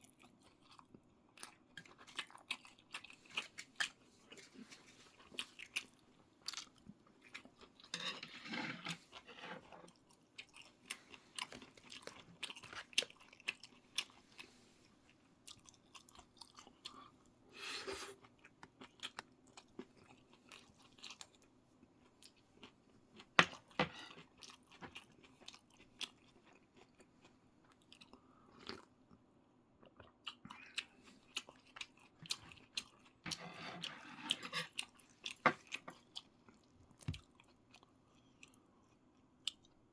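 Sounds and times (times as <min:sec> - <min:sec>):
person chewing crunchy food: 0:00.0 - 0:29.2, 0:29.8 - 0:39.8.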